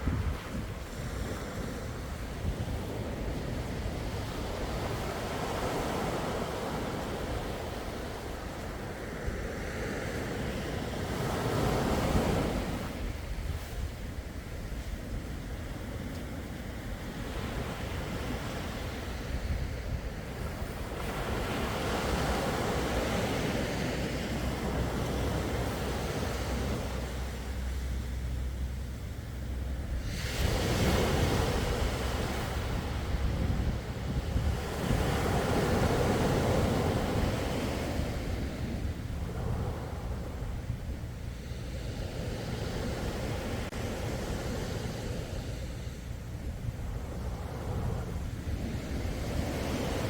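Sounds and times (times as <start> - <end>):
sea surf washing in: 0.0 - 50.0
wind rumble on microphone: 0.0 - 50.0.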